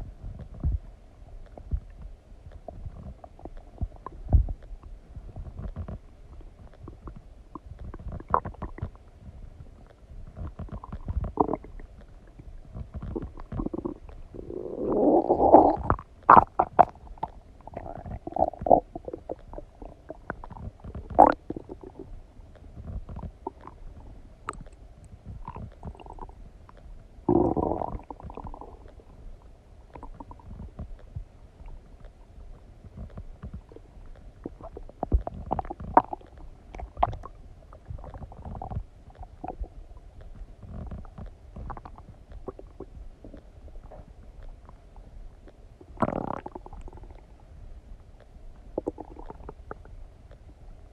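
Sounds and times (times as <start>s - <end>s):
stomach rumbling and gurgling: 0.0s - 50.9s.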